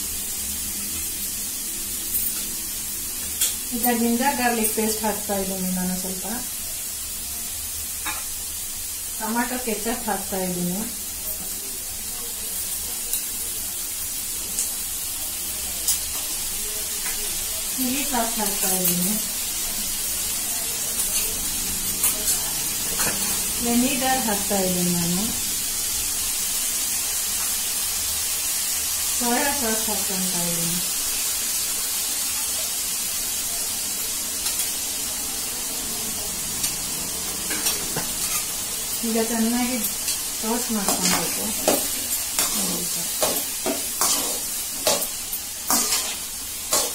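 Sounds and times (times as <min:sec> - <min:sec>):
food sizzling in pan: 0:00.0 - 0:46.9.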